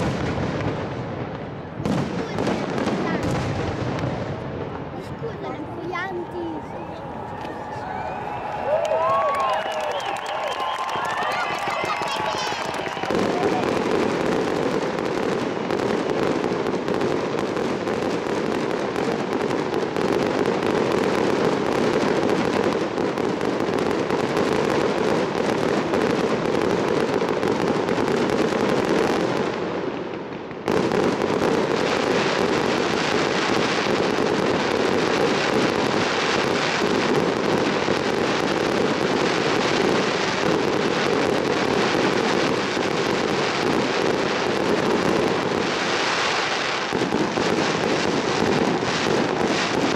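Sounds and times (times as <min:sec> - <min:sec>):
fireworks crackling and popping: 0:00.0 - 0:49.9.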